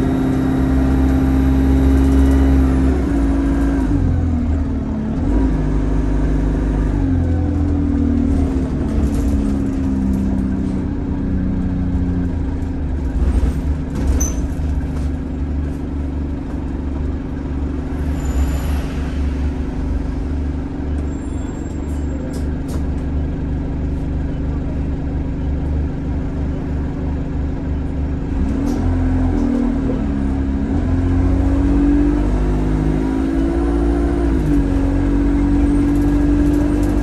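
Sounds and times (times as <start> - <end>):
bus engine droning: 0.0 - 37.0.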